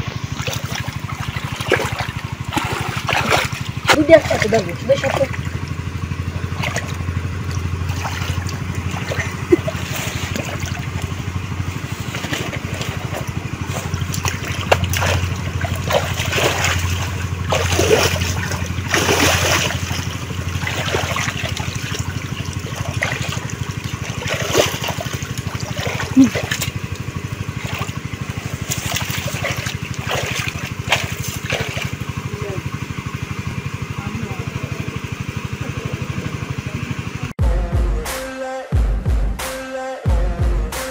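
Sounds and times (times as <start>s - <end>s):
muddy water splashing: 0.0s - 37.3s
low engine-like hum: 0.0s - 38.1s.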